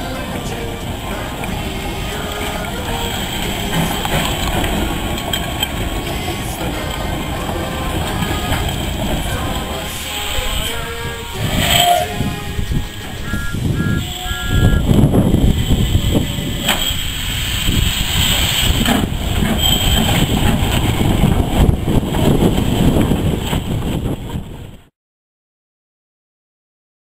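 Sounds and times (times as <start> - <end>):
steam hissing: 0.0 - 23.8
steam locomotive rumbling: 0.0 - 24.9.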